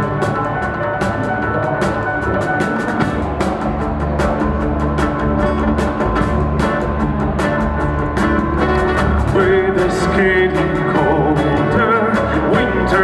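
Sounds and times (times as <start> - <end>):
percussive hits: 0.0 - 12.3
acoustic rock band playing: 0.0 - 13.0
strong bass line: 1.5 - 13.0.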